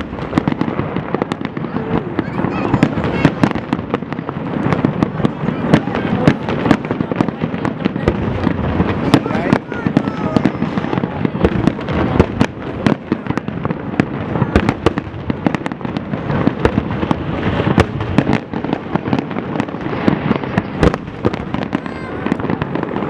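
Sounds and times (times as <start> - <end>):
fireworks bangs: 0.0 - 23.0
fireworks rumble and crackle: 0.0 - 23.0.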